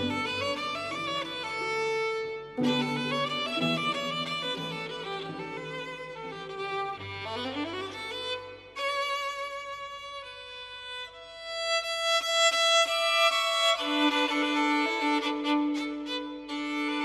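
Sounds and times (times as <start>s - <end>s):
slow violin melody: 0.0s - 17.0s.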